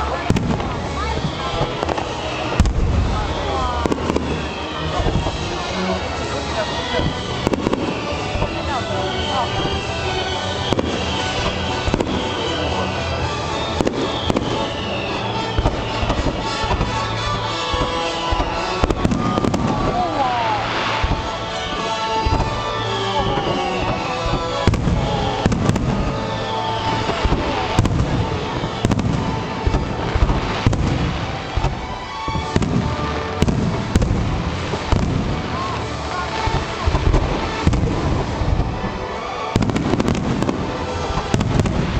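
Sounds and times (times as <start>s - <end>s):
fireworks bangs: 0.0s - 41.9s
fireworks crackling pops: 0.0s - 41.9s
music playing: 0.0s - 41.9s.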